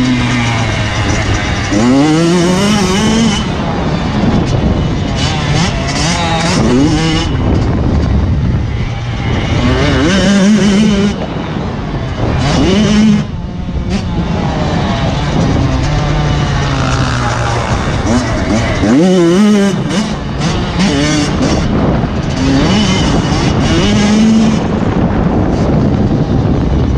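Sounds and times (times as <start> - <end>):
motocross bike engines revving: 0.0 - 26.9.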